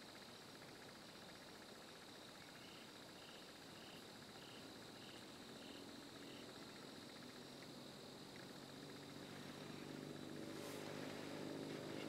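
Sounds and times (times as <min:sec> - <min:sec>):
faint low hum: 0:00.0 - 0:12.0
insect drone: 0:00.0 - 0:12.0
short insect chirp: 0:00.0 - 0:12.0.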